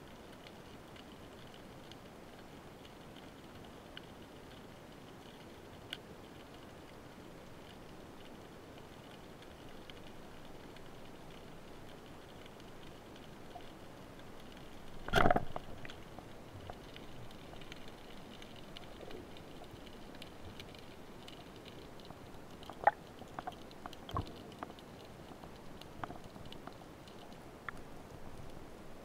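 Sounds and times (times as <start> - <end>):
small crackling clicks: 0.0 - 29.0.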